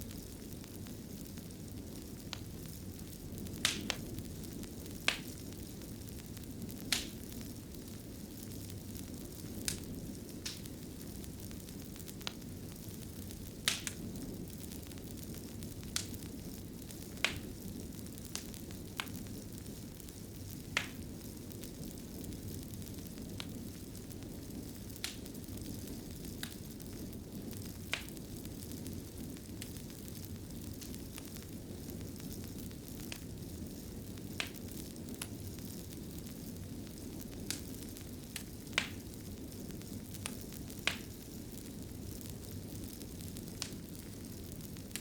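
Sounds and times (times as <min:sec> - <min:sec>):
fire crackling pops: 0:00.0 - 0:45.0
fire rumbling: 0:00.0 - 0:45.0.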